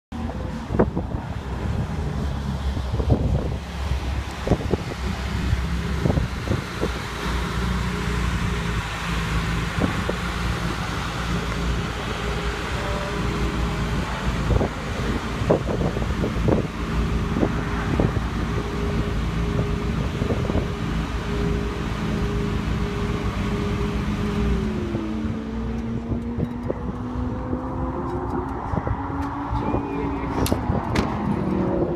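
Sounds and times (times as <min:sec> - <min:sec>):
car engine idling: 0:00.1 - 0:27.4
wind buffeting microphone: 0:00.2 - 0:21.2, 0:24.0 - 0:31.9.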